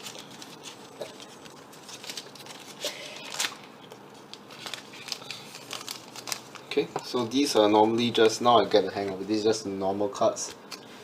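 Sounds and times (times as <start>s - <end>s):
cards rustling and clicking: 0.0s - 9.2s.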